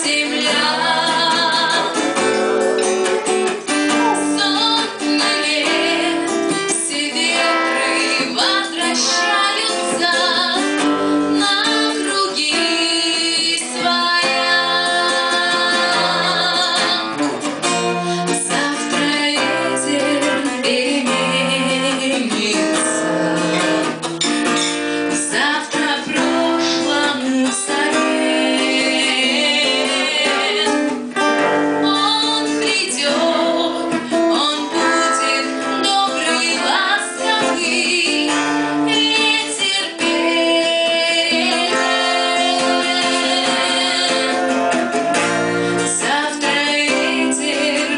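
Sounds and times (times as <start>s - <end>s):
woman singing: 0.0s - 2.8s, 3.5s - 24.1s, 24.9s - 47.9s
strummed acoustic guitar: 0.0s - 47.9s.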